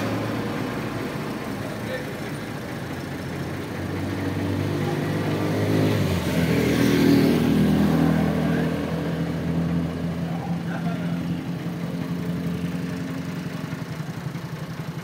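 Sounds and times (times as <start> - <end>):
tractor diesel engine idling: 0.0 - 6.4, 7.5 - 15.0.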